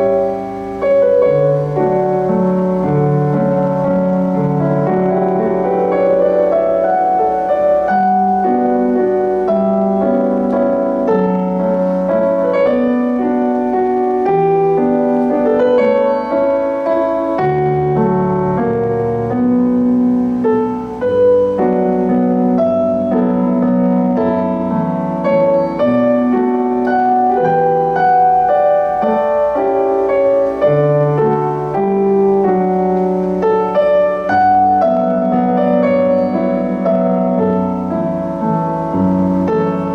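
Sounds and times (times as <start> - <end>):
piano keyboard solo: 0.0 - 39.9.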